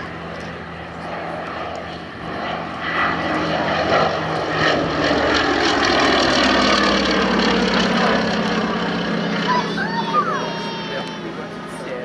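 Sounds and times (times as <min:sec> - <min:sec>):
propeller aircraft passing: 0:00.0 - 0:12.0.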